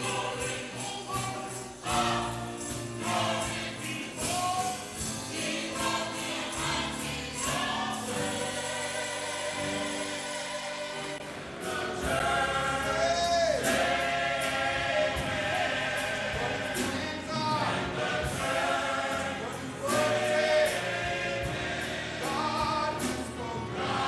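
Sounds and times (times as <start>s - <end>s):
choir singing gospel song: 0.0s - 24.0s.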